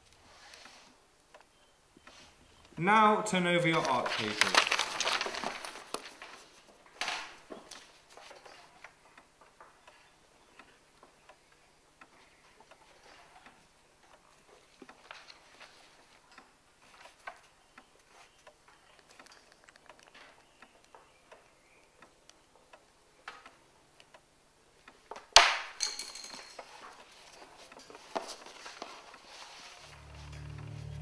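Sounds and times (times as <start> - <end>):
pencils tapping on paper and desks: 3.6 - 24.2, 24.8 - 29.9.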